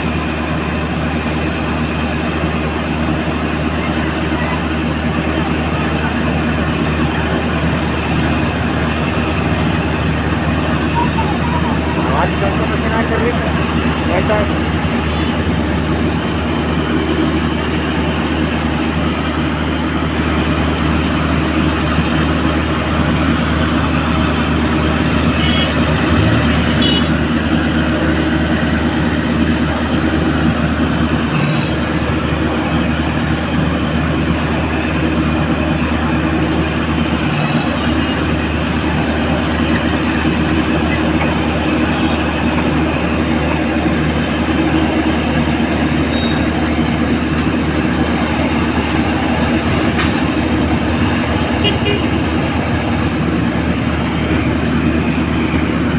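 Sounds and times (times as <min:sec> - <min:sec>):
heavy crane engine droning: 0:00.0 - 0:55.9.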